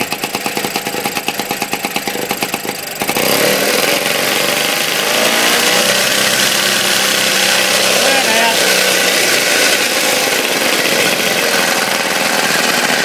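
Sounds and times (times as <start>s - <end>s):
lawn mower engine idling and revving: 0.0s - 13.0s.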